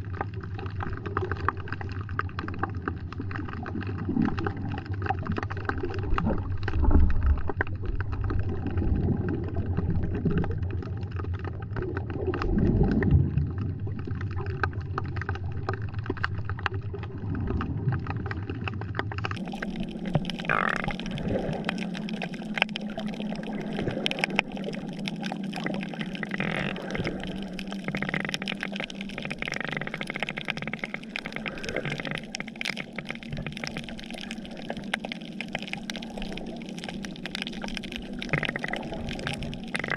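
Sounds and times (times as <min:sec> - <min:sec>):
water sloshing against microphone: 0:00.0 - 0:39.9.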